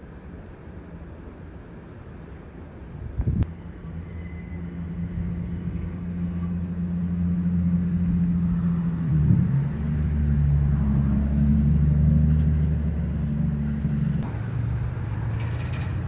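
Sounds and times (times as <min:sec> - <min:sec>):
rail equipment low drone: 0:00.0 - 0:16.0.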